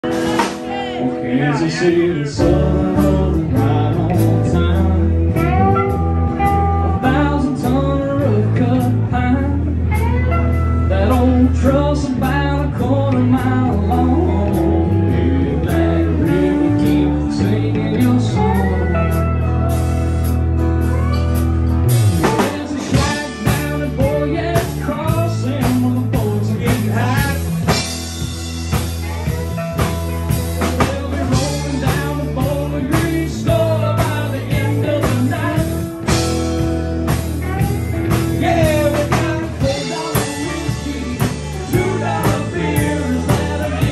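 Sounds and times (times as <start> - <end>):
acoustic and electric guitars: 0.0 - 43.9
bass guitar: 0.0 - 43.9
drum kit: 0.0 - 43.9
lead singer: 0.0 - 43.9.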